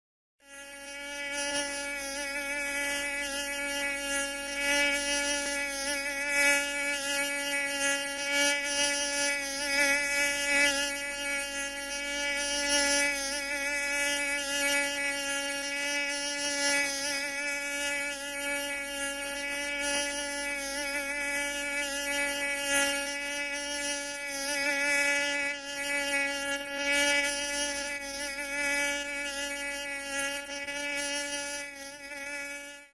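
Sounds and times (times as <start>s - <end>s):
mosquito whining: 0.4s - 32.9s.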